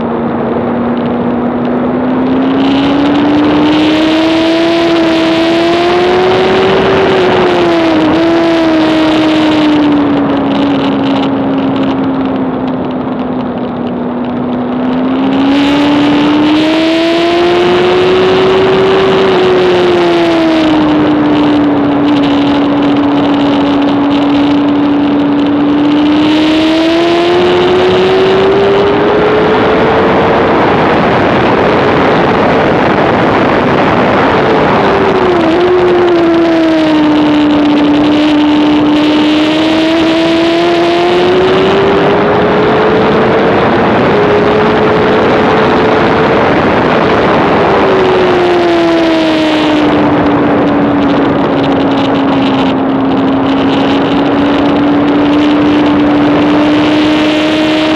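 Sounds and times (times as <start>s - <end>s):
motorcycle engine at high revs: 0.0s - 57.9s
wind noise rushing: 0.0s - 57.9s.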